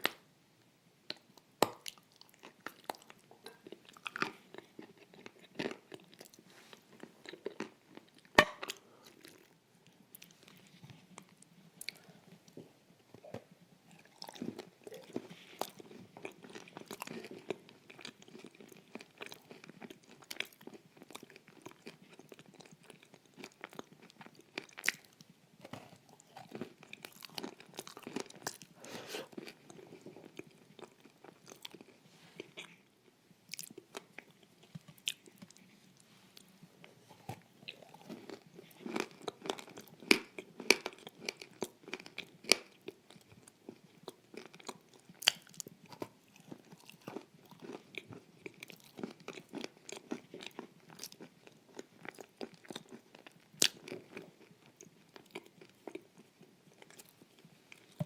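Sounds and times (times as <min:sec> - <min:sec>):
person crunching food: 0:01.6 - 0:12.0, 0:13.9 - 0:32.8, 0:33.5 - 0:36.5, 0:37.1 - 0:58.0.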